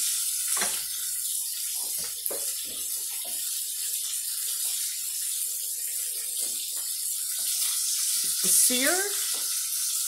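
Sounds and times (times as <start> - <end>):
tap water running: 0.0 - 10.0.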